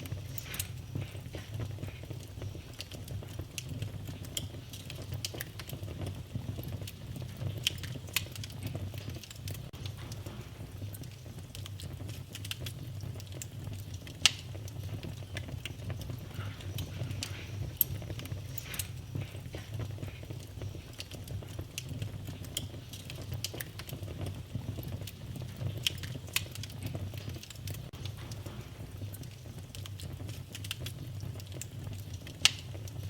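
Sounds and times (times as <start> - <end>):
steady low rumble: 0.0 - 23.4, 26.8 - 32.1
sharp pops of fire: 0.0 - 33.0
wood fire crackling: 0.0 - 33.0.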